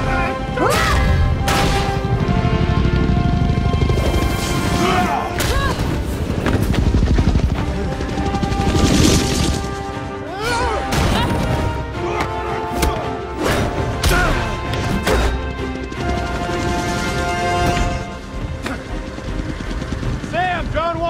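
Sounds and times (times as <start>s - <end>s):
dramatic orchestral music: 0.0s - 21.0s.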